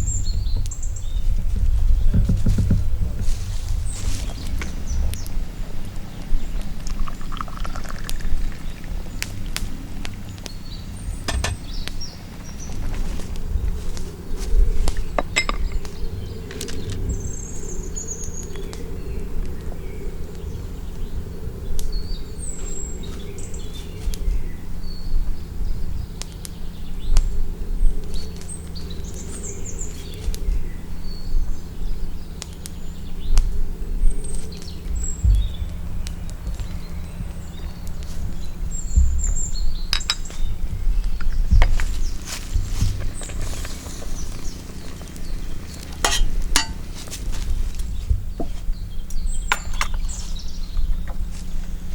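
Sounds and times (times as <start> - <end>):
birds chirping: 0.0 - 51.9
steady low rumble: 0.0 - 51.9.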